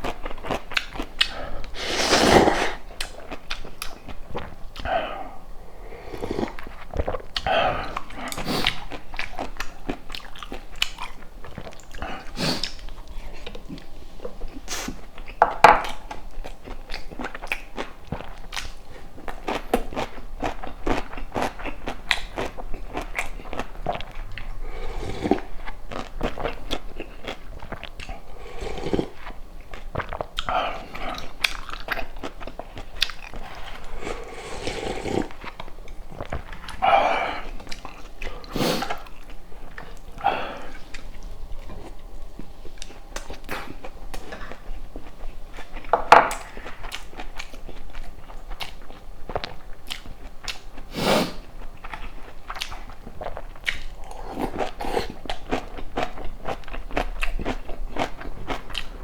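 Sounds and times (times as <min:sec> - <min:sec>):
biting and chewing food: 0:06.4 - 0:50.9, 0:51.5 - 0:59.0.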